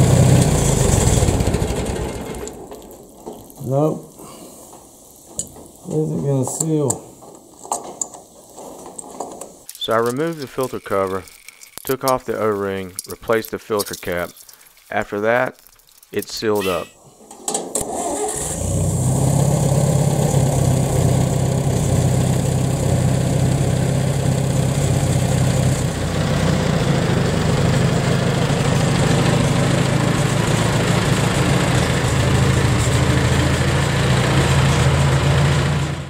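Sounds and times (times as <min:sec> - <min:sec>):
tractor engine idling: 0:00.0 - 0:14.4, 0:17.8 - 0:36.0.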